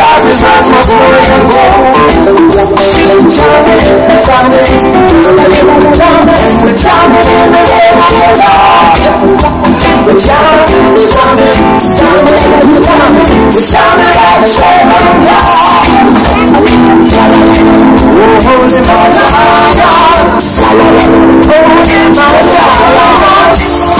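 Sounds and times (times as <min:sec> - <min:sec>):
man singing: 0:00.0 - 0:23.9
reggae band playing: 0:00.0 - 0:23.9.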